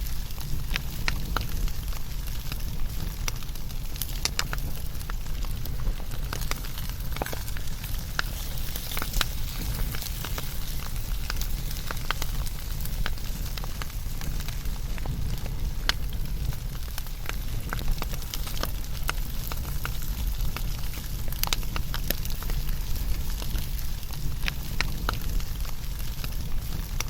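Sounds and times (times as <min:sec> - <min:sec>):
fire crackling and popping: 0:00.0 - 0:27.0
wood fire burning: 0:00.0 - 0:27.0.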